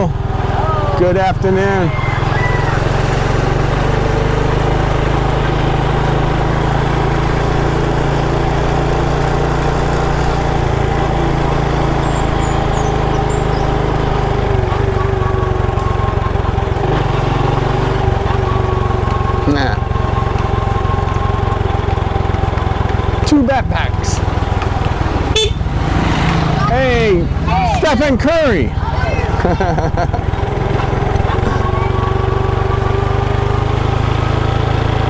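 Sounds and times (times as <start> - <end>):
motorbike engine running: 0.0 - 35.0.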